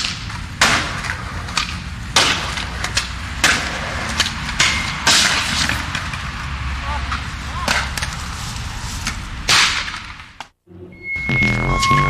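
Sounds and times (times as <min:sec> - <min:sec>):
skateboard wheels rolling: 0:00.0 - 0:10.3.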